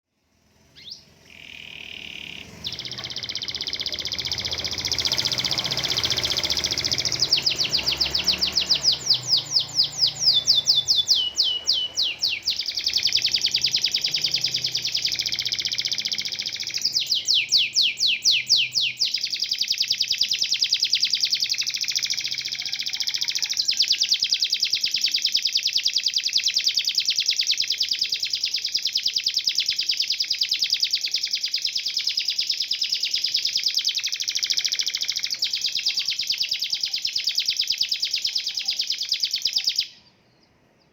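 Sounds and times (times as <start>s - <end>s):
canary singing trills: 0.6s - 40.9s.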